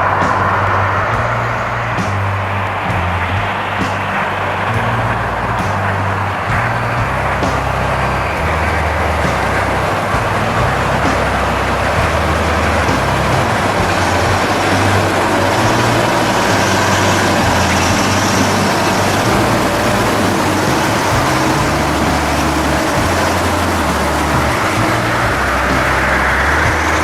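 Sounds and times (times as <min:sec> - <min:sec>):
tracked vehicle engine running: 0:00.0 - 0:27.0.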